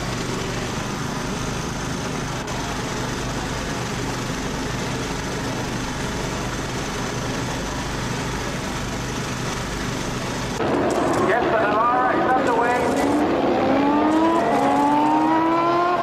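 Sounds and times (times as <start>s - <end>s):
engines running at low revs: 0.0s - 16.0s.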